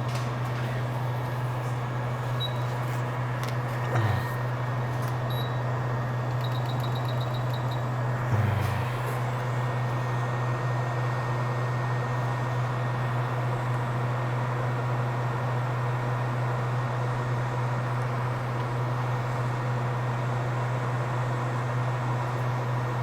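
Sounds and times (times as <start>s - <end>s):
equipment hum and fan hiss: 0.0s - 23.0s.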